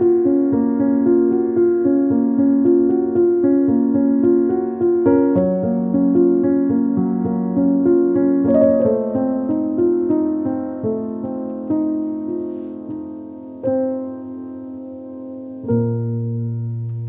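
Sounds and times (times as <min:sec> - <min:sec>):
piano-like keyboard music: 0:00.0 - 0:17.0.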